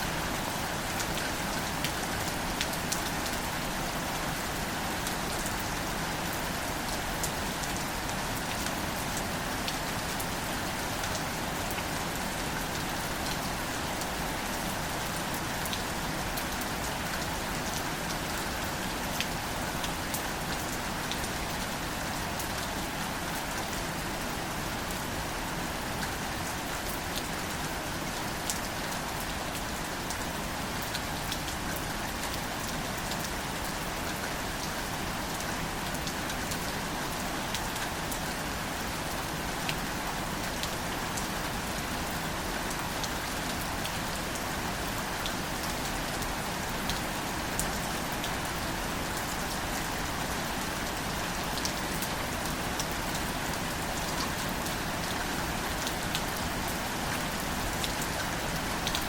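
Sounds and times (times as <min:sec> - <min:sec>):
light rain on plants: 0:00.0 - 0:59.0.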